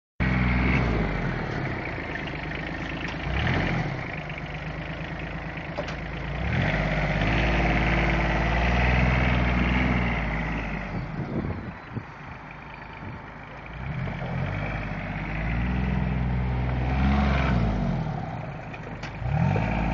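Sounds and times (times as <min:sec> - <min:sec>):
utility vehicle engine revving: 0:00.2 - 0:19.9.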